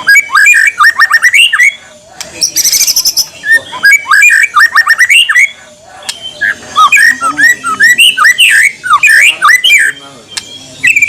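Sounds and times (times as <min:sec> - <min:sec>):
bird singing whistled notes: 0:00.0 - 0:11.0.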